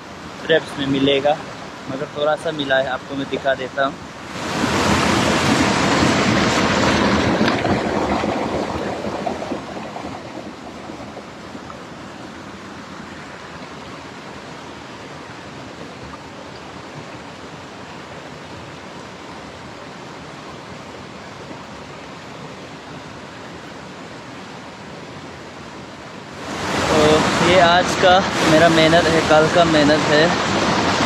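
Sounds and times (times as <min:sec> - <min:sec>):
stream water rushing: 0:00.0 - 0:31.0.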